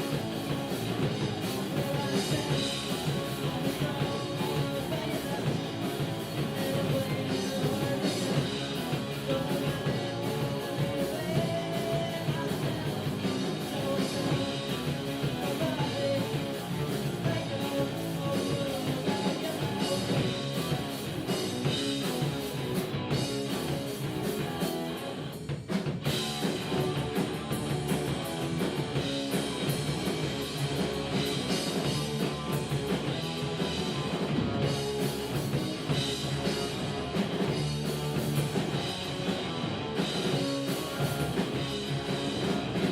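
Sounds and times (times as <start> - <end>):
rock music with guitar and drums: 0.0 - 42.9.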